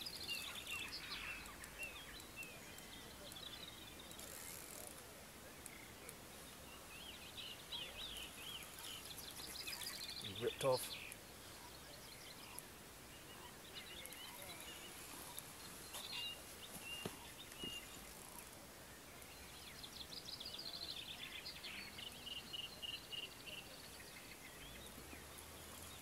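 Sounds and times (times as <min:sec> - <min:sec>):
songbirds calling: 0:00.0 - 0:26.0.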